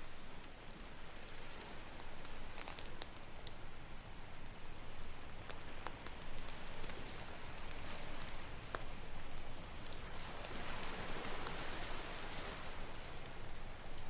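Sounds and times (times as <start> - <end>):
campfire crackling: 0.0 - 14.0
ocean waves: 0.0 - 14.0.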